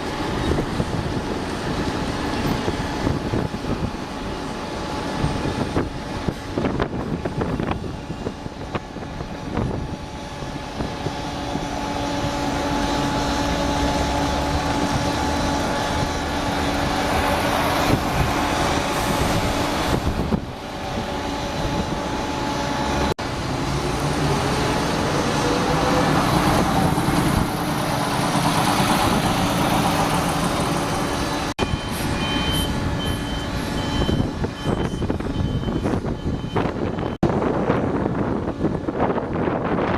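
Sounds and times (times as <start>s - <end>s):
large road vehicles passing: 0.0s - 39.9s.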